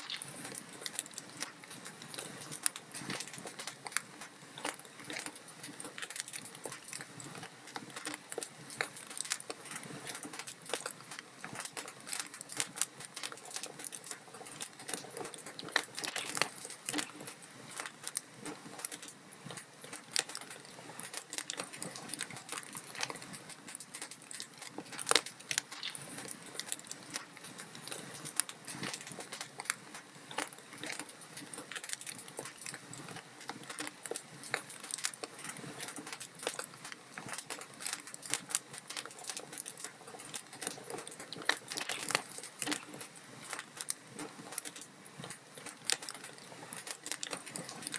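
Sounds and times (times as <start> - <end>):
log fire crackling: 0.0 - 47.9.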